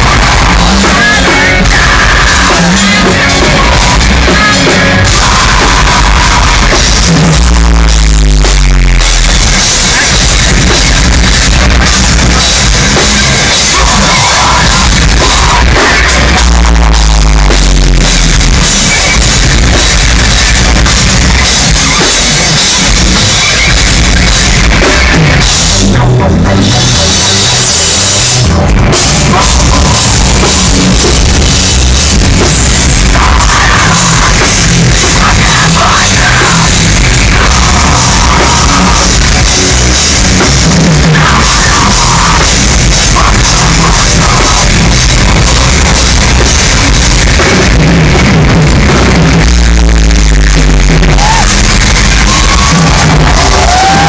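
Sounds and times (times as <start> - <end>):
live metal band playing loud: 0.0 - 54.0.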